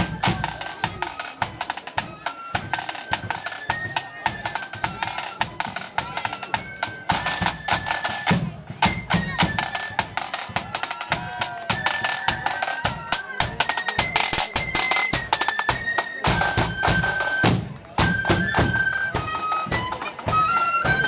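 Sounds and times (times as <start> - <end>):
flutes playing melody: 0.0 - 21.0
snare drums: 0.0 - 21.0.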